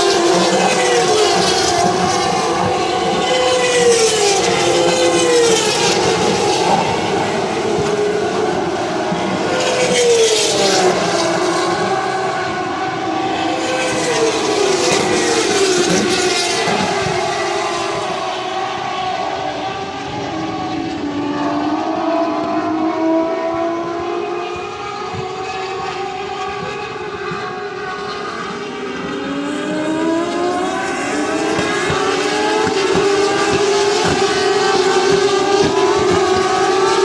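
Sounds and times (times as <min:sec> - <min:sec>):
race car engines: 0:00.0 - 0:37.0.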